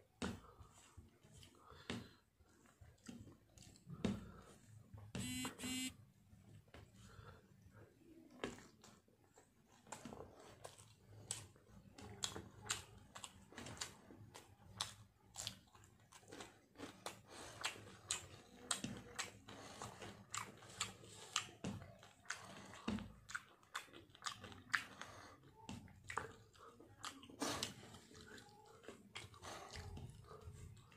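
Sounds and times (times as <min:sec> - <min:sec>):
person chewing food: 0:00.2 - 0:05.9, 0:06.7 - 0:30.9.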